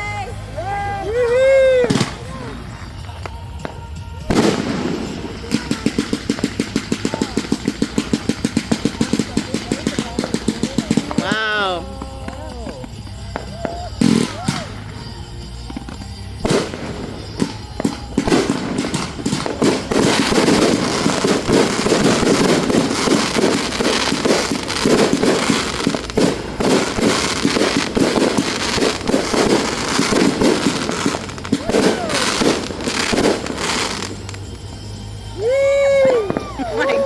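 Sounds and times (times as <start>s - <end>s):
fireworks bursting and crackling: 0.0s - 37.0s.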